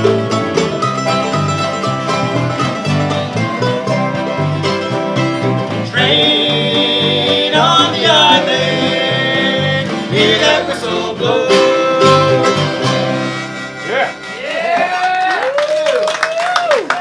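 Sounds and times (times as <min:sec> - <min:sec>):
banjo: 0:00.0 - 0:14.9
bluegrass string band playing: 0:00.0 - 0:15.2.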